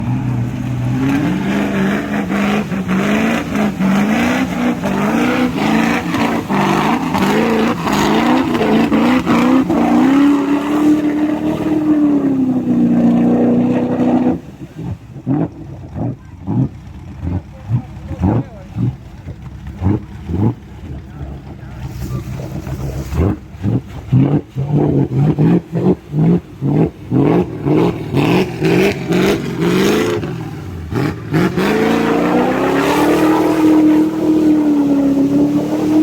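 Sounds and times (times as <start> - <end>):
engine revving: 0.0 - 36.0.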